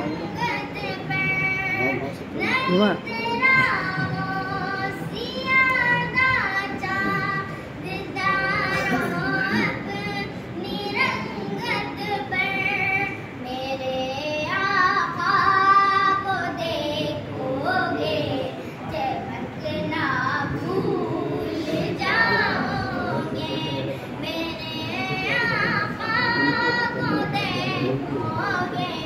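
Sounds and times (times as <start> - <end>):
child singing unaccompanied: 0.0 - 29.0.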